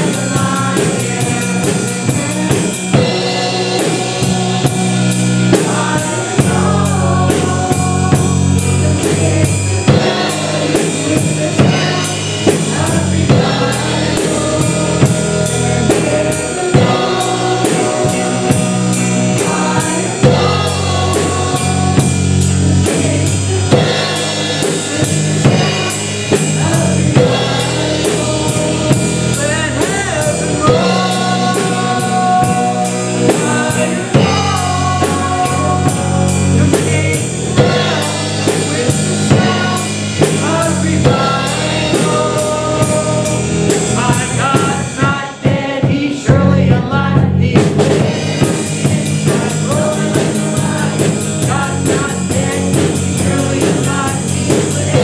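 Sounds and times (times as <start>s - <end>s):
drum kit beat: 0.0s - 55.0s
people singing: 0.0s - 55.0s
worship band playing: 0.0s - 55.0s.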